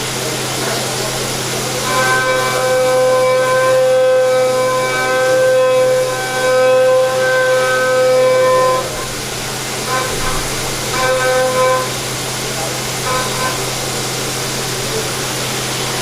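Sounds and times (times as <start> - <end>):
machine cutting metal whine: 0.0 - 16.0.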